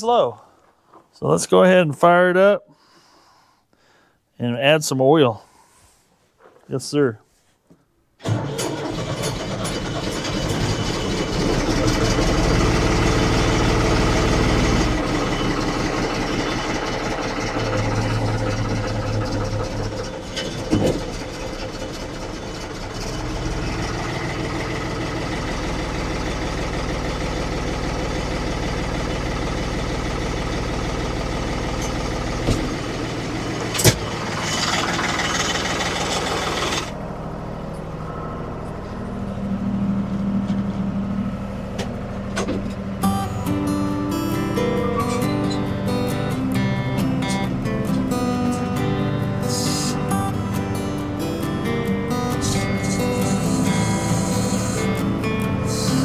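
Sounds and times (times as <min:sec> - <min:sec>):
diesel engine running: 0:08.2 - 0:56.0.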